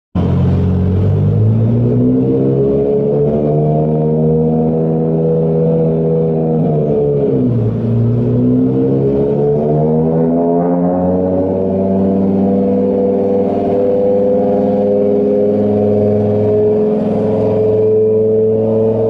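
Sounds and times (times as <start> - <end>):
car engine revving: 0.2 - 19.0.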